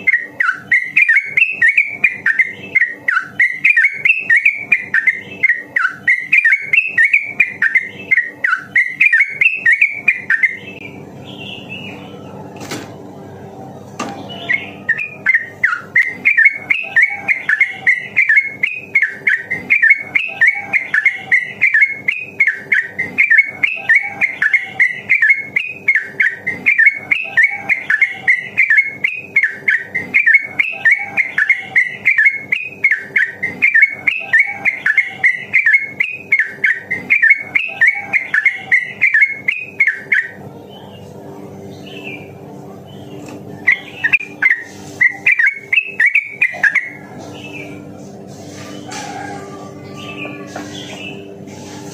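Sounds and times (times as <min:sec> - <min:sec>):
bird chattering song: 0:00.0 - 0:12.4, 0:14.1 - 0:51.8.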